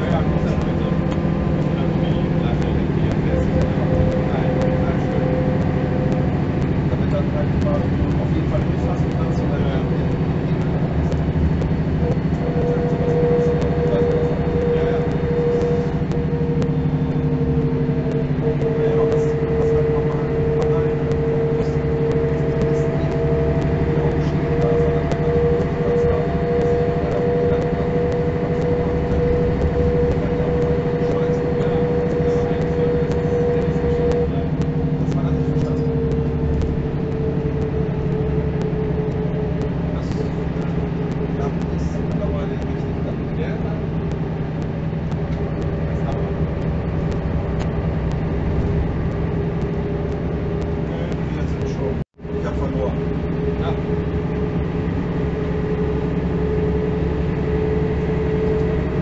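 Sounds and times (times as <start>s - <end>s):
bus diesel engine running: 0.0s - 59.0s
regular light ticking: 0.0s - 59.0s
steady whine: 0.0s - 59.0s.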